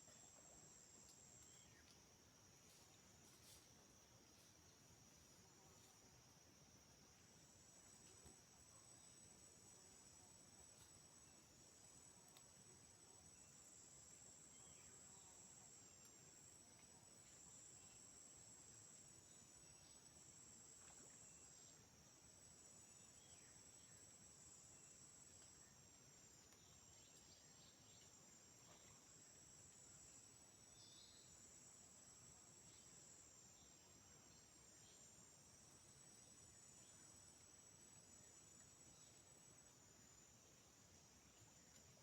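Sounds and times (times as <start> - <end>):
high-pitched insect chorus: 7.0 - 42.0.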